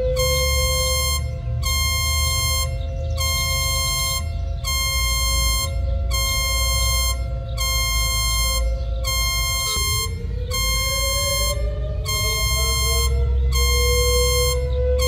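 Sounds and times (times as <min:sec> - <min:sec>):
continuous low tone: 0:00.0 - 0:15.0
heavy low rumble: 0:00.0 - 0:15.0
pulsing electronic alarm tones: 0:00.0 - 0:15.0.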